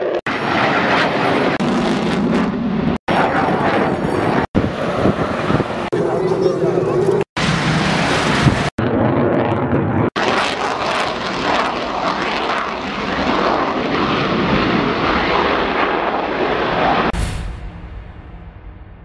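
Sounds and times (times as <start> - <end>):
fighter jet flying past low: 0.0 - 17.1.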